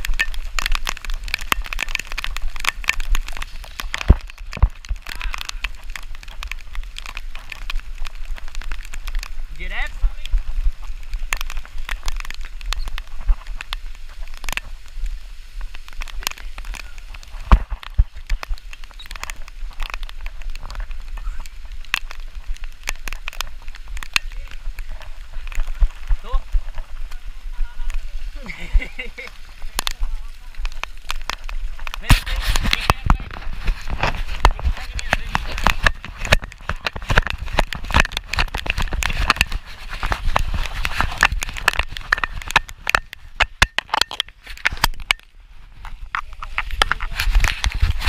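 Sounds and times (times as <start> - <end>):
crackling and clicking: 0.0 - 48.0
rain falling: 0.0 - 48.0
raindrops tapping near microphone: 0.0 - 48.0.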